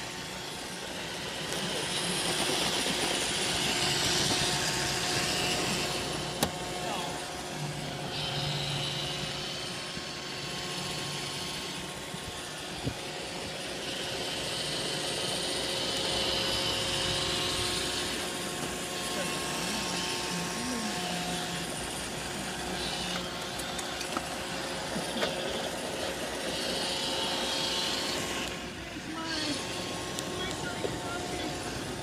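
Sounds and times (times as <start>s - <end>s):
robot vacuum motor whirring: 0.0s - 32.0s.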